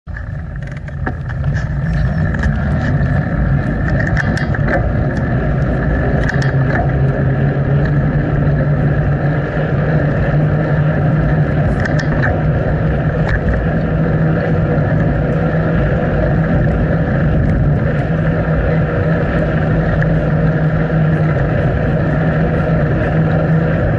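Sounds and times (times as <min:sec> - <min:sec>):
bicycle clicks and rattles: 0:00.1 - 0:23.9
wind noise: 0:00.1 - 0:23.9.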